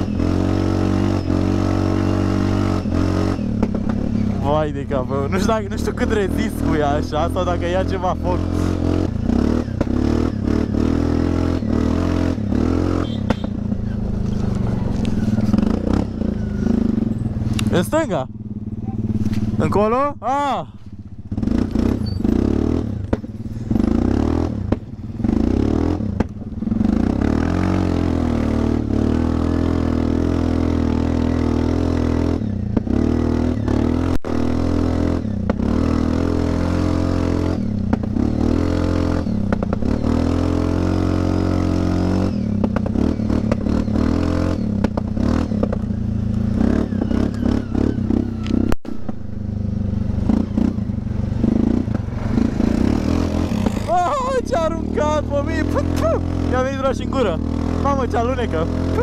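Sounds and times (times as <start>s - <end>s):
atv engine exhaust note: 0.0s - 59.0s.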